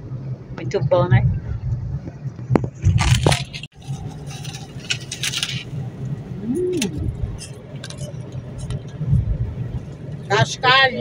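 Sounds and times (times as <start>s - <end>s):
road rumble inside car: 0.0s - 11.0s.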